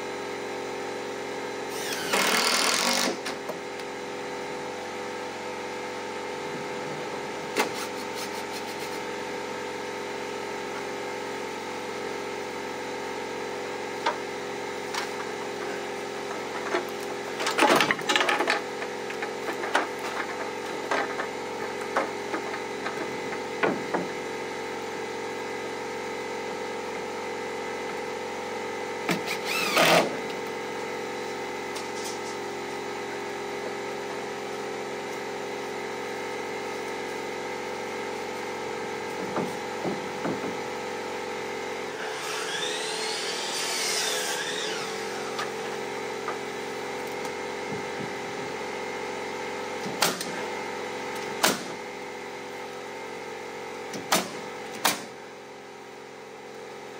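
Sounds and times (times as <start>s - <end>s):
machine humming: 1.8s - 53.3s.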